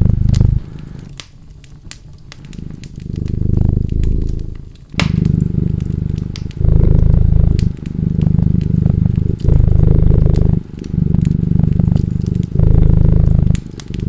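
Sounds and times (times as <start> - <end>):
cat purring: 0.0 - 14.0
wood fire crackling: 0.0 - 14.0.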